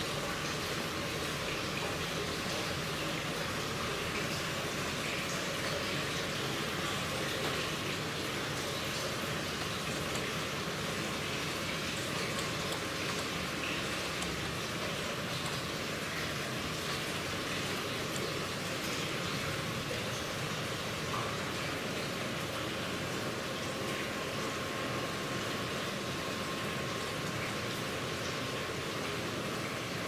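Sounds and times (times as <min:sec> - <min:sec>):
water splashing into tanks: 0:00.0 - 0:30.0.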